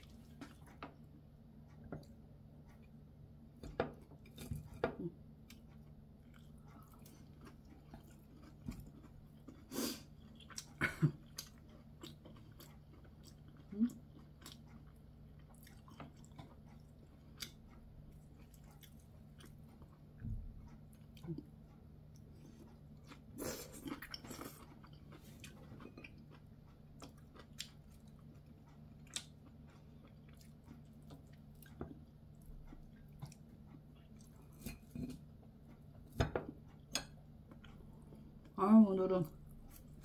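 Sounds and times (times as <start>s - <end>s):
person chewing food: 0.0s - 38.6s, 39.3s - 40.0s
faint low hum: 0.0s - 40.0s.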